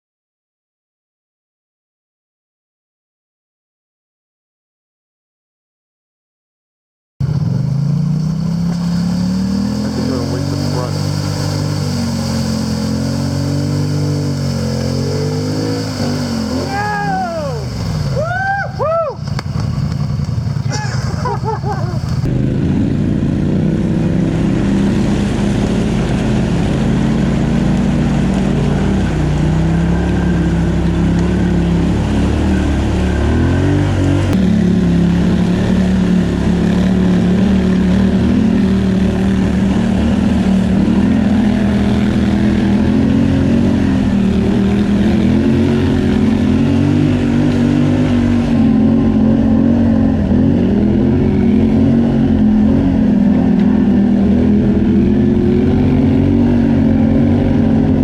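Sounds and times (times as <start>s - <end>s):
atv engine revving: 7.2s - 58.0s.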